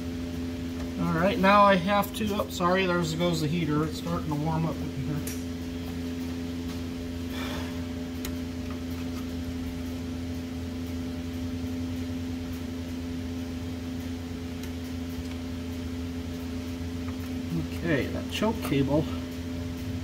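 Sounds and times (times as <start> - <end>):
heater humming: 0.0 - 20.0.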